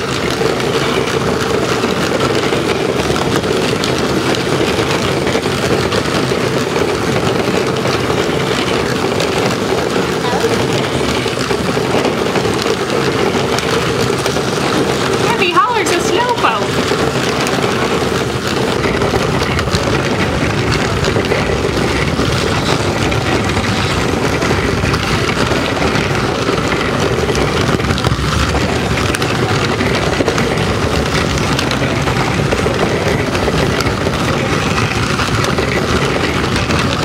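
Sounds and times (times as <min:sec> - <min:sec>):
plastic wheels clattering: 0:00.0 - 0:37.0.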